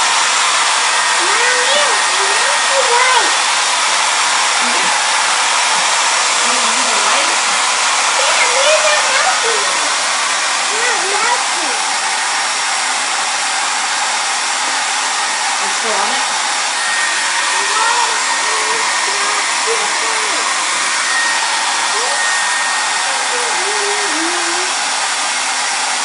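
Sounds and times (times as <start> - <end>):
hair dryer blowing: 0.0 - 26.0.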